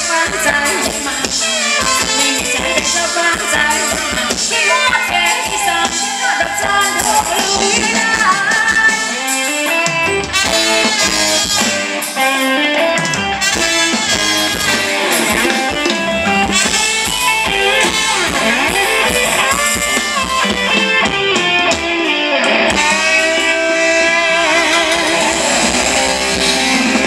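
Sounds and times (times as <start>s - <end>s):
drum-kit beat: 0.0s - 27.0s
wavering guitar lead: 0.0s - 27.0s.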